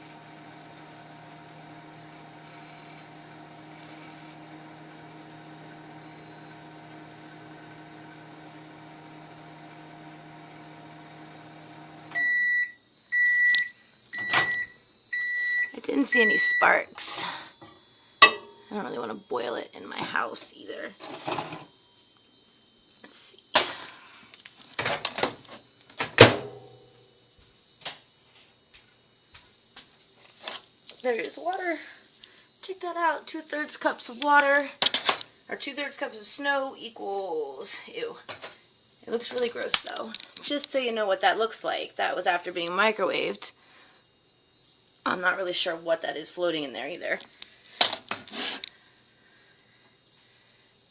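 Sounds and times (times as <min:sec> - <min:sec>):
microwave high beeps: 0:00.0 - 0:50.9
microwave oven humming: 0:00.0 - 0:50.9.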